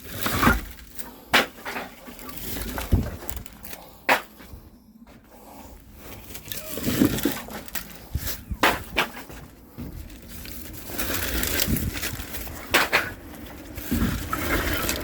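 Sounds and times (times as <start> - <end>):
scraping and rustling: 0.0 - 4.6, 5.8 - 15.0
firewood logs knocking together: 0.0 - 5.2, 6.4 - 15.0.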